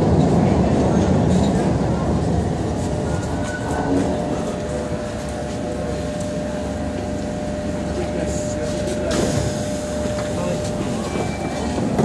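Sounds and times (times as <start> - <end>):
constant hum: 0.0 - 12.0
subway train rumble: 0.0 - 12.0.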